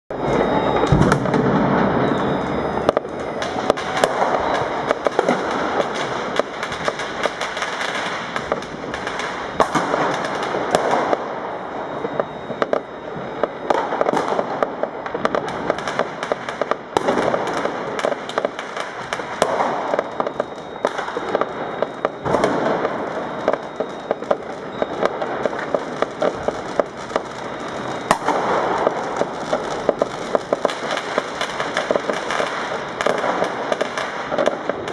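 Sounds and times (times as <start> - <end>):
firecrackers crackling: 0.1 - 34.9.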